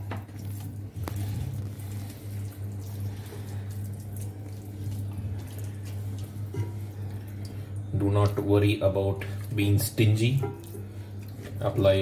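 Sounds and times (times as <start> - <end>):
hands squelching wet marinade: 0.0 - 12.0
steady low hum: 0.0 - 12.0.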